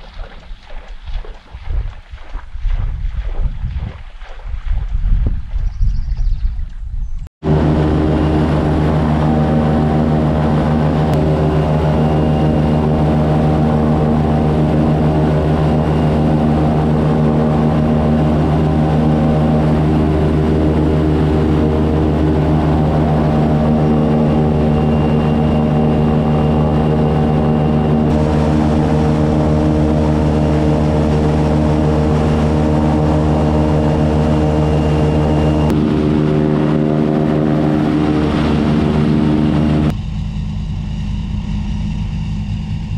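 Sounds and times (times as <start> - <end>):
airboat engine and propeller drone: 0.0 - 4.8, 7.4 - 42.9.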